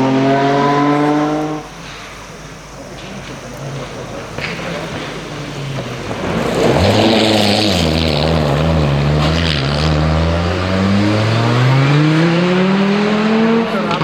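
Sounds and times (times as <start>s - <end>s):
rally car engine accelerating: 0.0s - 14.0s.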